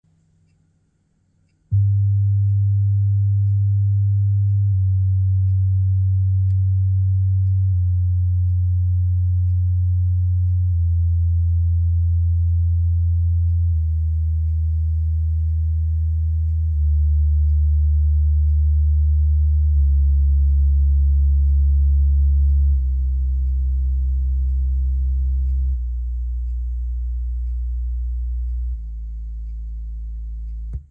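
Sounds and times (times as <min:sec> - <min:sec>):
low test tones from subwoofer: 0:01.5 - 0:30.9
faint woofer buzz: 0:01.7 - 0:30.9.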